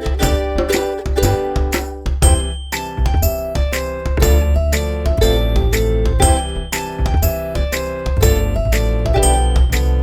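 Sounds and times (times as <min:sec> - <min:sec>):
music with plucked melody and bass: 0:00.0 - 0:10.0.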